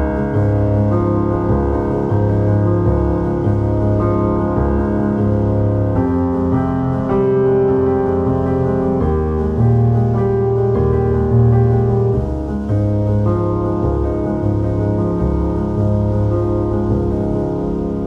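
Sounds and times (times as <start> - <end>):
instrumental music with held chords: 0.0 - 18.0.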